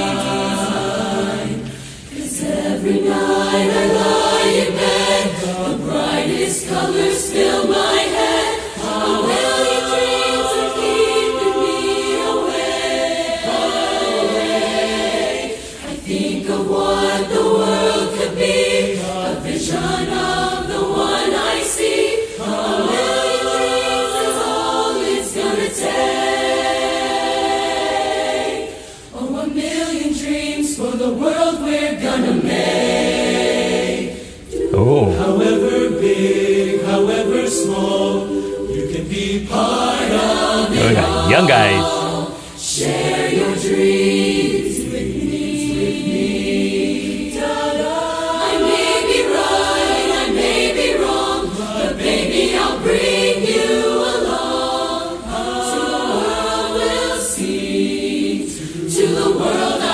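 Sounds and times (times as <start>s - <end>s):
chorus singing a cappella: 0.0s - 59.9s.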